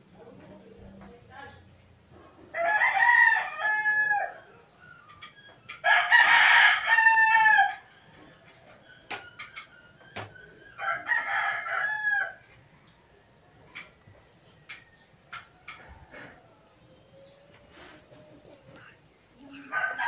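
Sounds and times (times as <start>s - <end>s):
roosters crowing: 2.3s - 18.9s, 19.5s - 20.0s.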